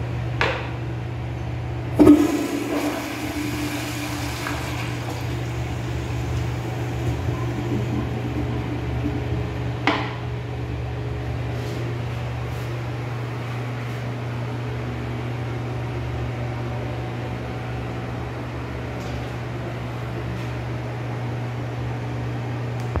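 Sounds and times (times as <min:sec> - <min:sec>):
exhaust fan humming: 0:00.0 - 0:23.0.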